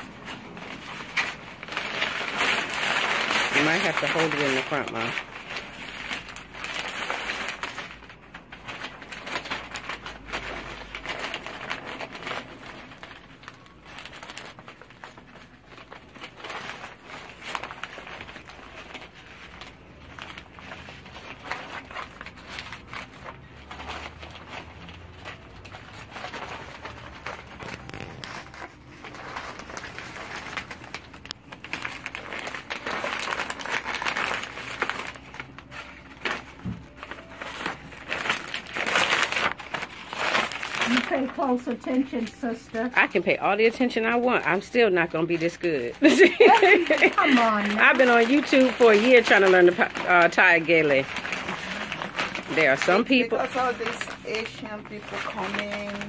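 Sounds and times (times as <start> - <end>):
stiff fabric rustling and crinkling: 0.0 - 56.0.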